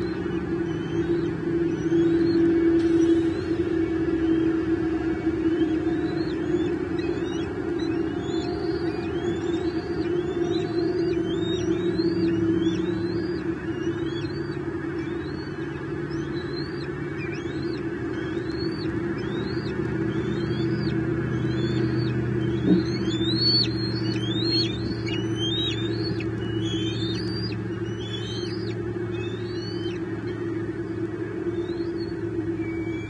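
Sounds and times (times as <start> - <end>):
bird chirps: 0.0 - 33.0
steady low hum: 0.0 - 33.0.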